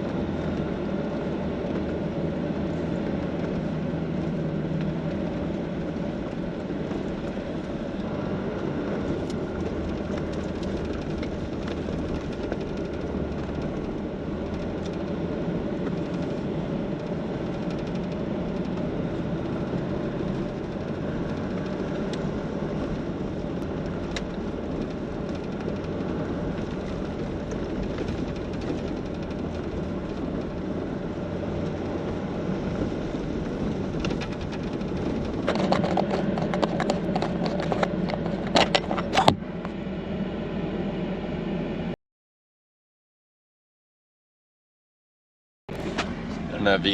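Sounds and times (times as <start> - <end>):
car engine driving: 0.0 - 42.0, 45.7 - 46.9
road noise: 0.0 - 42.0, 45.7 - 46.9.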